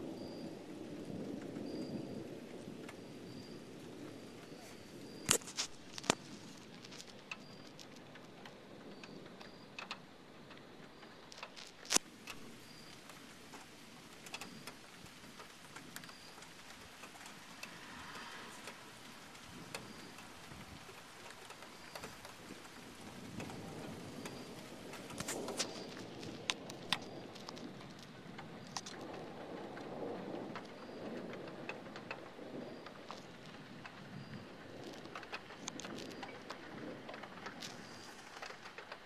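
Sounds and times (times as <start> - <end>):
steady rain: 0.0 - 39.0
drops ticking on a surface: 5.2 - 39.0.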